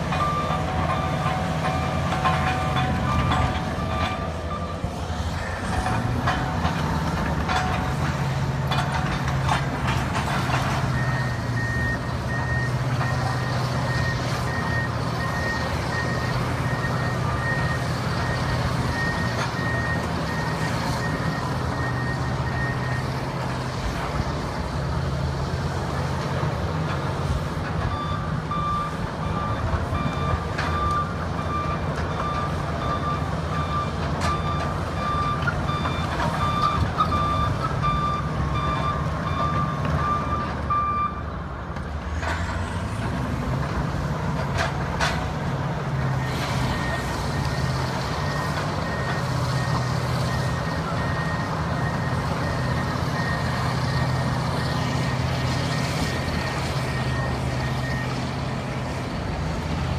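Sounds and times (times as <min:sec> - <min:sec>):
bulldozer diesel engines rumbling: 0:00.0 - 0:59.9.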